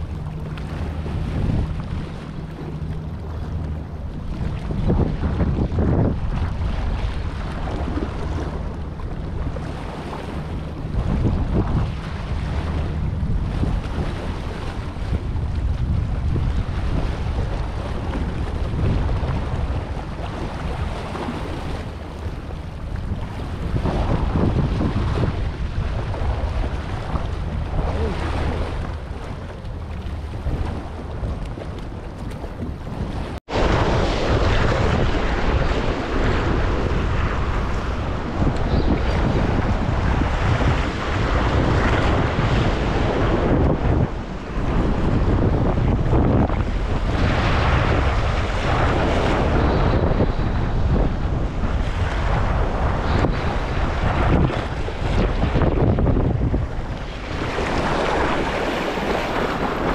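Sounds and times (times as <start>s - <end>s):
waves splashing over rocks: 0.0s - 59.9s
wind buffeting microphone: 0.0s - 59.9s.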